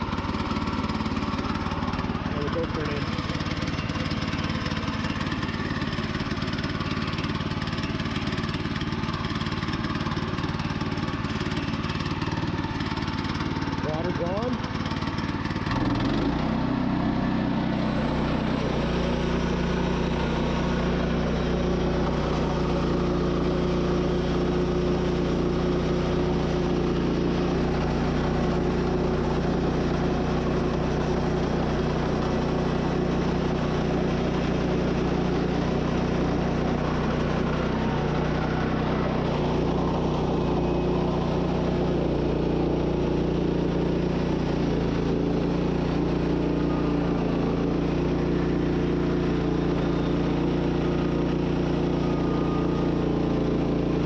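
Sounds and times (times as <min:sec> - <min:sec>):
gas engine running under load: 0:00.0 - 0:54.0.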